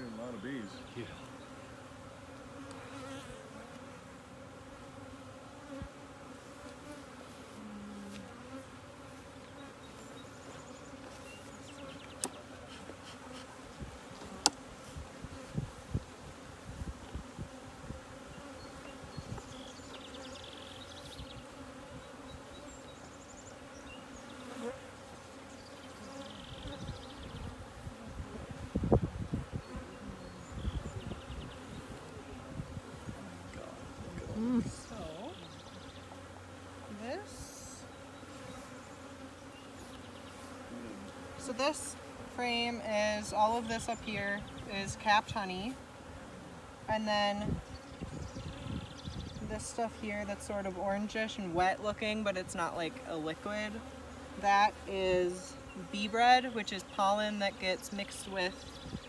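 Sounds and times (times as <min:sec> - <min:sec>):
bees buzzing: 0:00.0 - 0:59.0.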